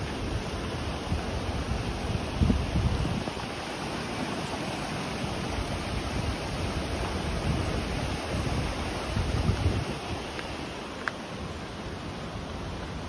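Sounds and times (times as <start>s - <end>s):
river rushing over stones: 0.0s - 13.0s
wind rumbling on microphone: 0.0s - 13.0s.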